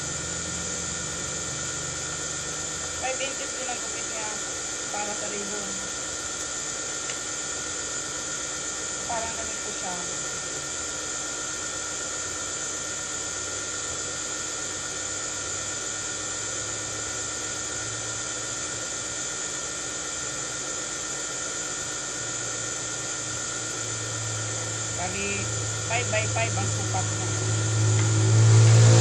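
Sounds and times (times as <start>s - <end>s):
small motor whining: 0.0s - 29.0s.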